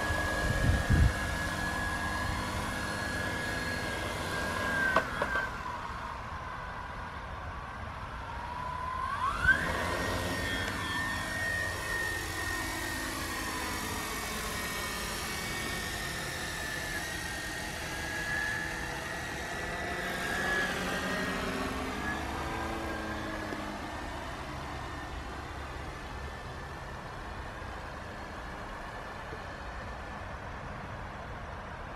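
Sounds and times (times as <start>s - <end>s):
drone propellers whining: 0.0s - 31.9s.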